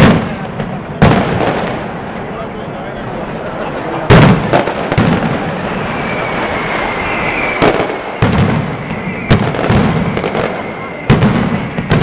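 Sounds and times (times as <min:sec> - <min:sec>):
loud firecracker bangs: 0:00.0 - 0:02.6, 0:03.8 - 0:12.0
firecrackers crackling barrage: 0:00.0 - 0:12.0.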